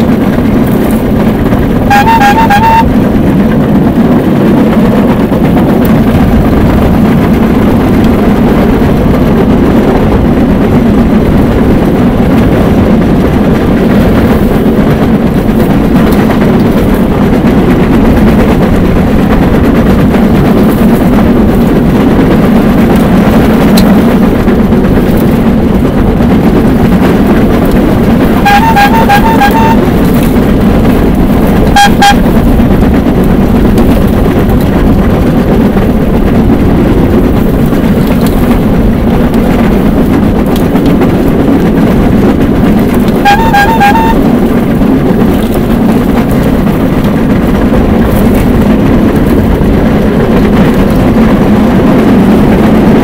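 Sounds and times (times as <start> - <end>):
rail bike wheels rumbling on rails: 0.0 - 53.0.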